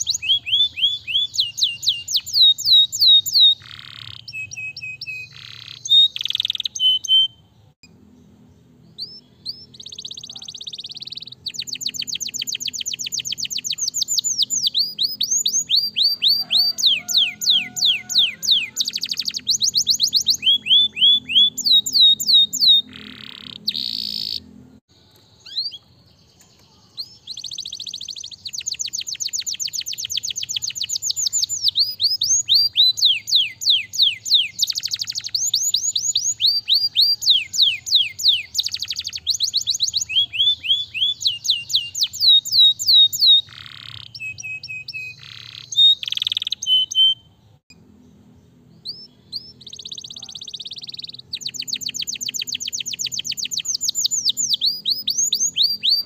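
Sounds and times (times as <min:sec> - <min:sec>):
canary singing fast trills: 0:00.0 - 0:56.0.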